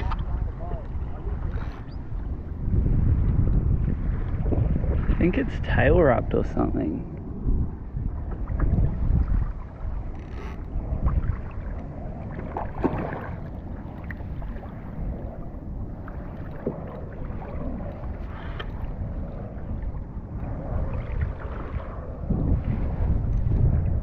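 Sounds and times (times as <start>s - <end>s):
water sloshing against kayak: 0.0s - 5.8s, 6.4s - 24.0s
wind noise on microphone: 0.0s - 24.0s.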